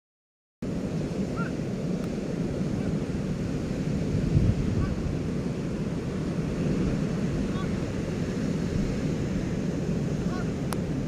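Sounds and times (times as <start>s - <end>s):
ocean surf breaking: 0.6s - 11.0s
wind rumbling on microphone: 0.6s - 11.0s.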